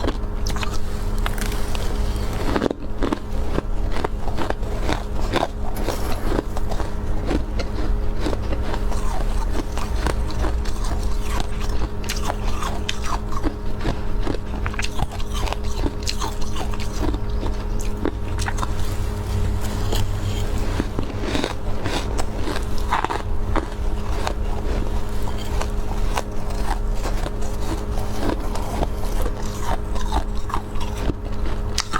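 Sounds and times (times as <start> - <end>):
chewing frost crunches: 0.0 - 31.9
steady low hum: 0.0 - 31.9.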